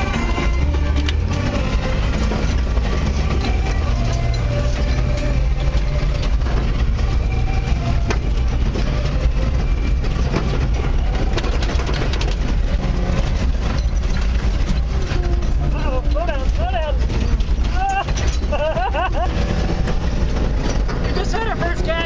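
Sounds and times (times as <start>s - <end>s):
knocks and rattles: 0.0s - 22.0s
truck engine running under load: 0.0s - 22.0s.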